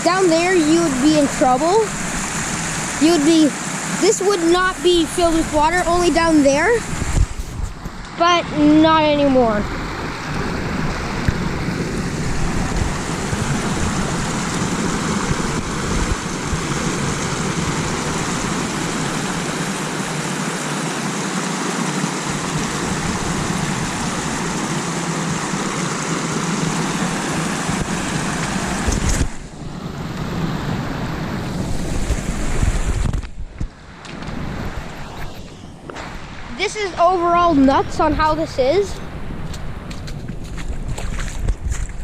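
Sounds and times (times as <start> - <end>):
rushing floodwater: 0.0 - 42.0
wind rumble on microphone: 4.1 - 20.2, 22.2 - 42.0.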